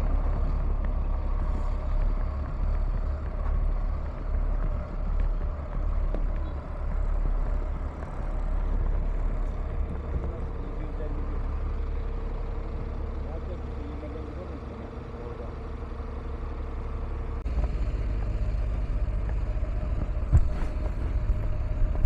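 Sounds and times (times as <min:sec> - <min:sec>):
vehicle rumble in motion: 0:00.0 - 0:22.0.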